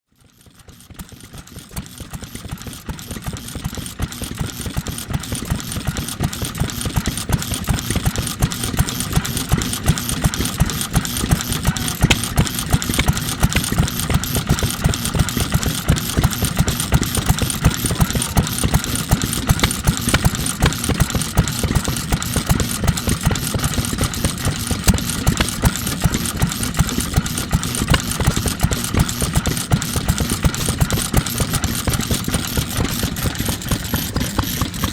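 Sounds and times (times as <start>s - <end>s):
stationary engine running: 0.1s - 34.9s.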